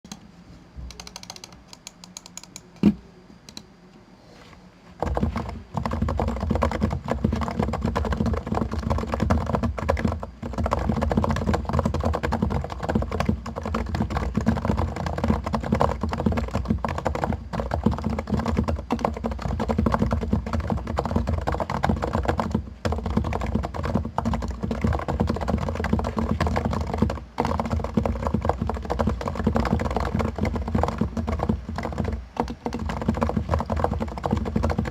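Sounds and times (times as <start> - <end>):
fast typing on a keyboard: 0.9 - 2.6, 5.0 - 34.9.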